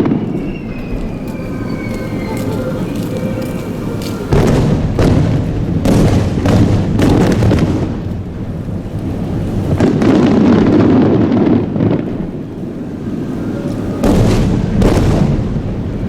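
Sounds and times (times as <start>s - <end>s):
firework shells bursting: 0.0s - 15.9s
rumbling echo: 0.0s - 16.0s.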